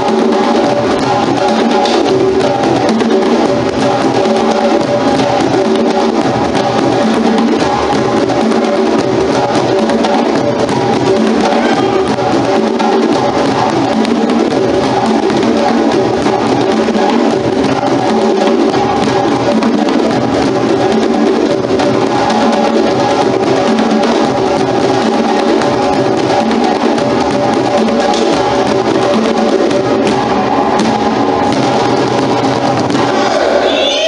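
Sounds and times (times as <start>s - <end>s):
drum-led percussion music: 0.0s - 34.0s.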